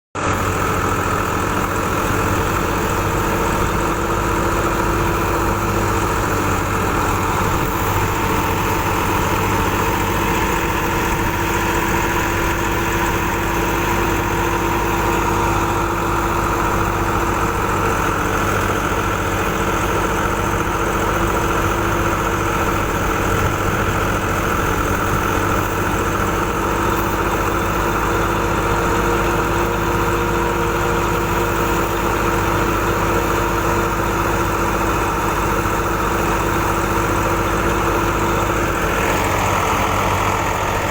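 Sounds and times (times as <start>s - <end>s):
thresher mechanical hum: 0.2s - 40.9s
tractor diesel engine running: 0.2s - 40.9s.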